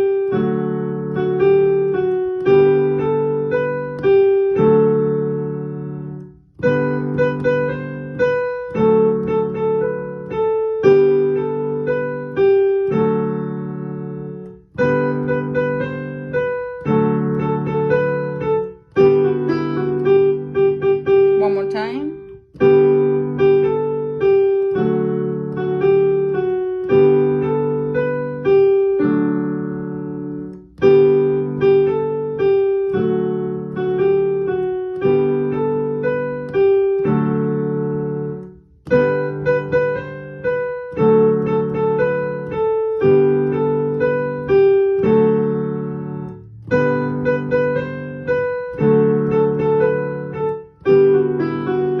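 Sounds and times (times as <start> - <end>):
piano exercise with chords: 0.0 - 52.0.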